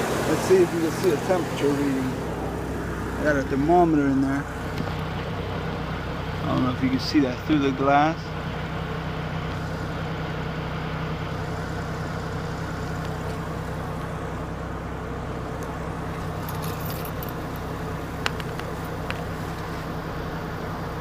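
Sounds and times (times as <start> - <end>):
air conditioning blowing: 0.0 - 21.0
car engine idling: 0.0 - 21.0.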